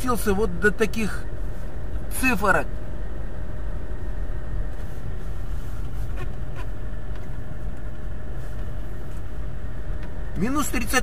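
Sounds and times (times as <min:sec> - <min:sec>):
car engine rumbling inside cabin: 0:00.0 - 0:11.0.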